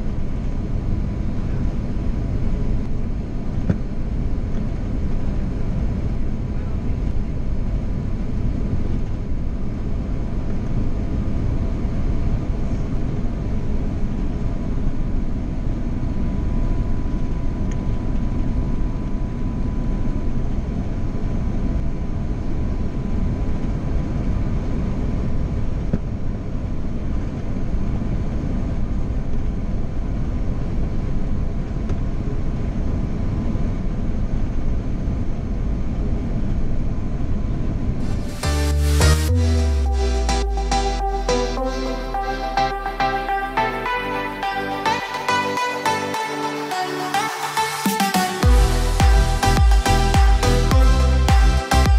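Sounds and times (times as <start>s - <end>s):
jet engine and airflow rumble: 0.0s - 49.5s.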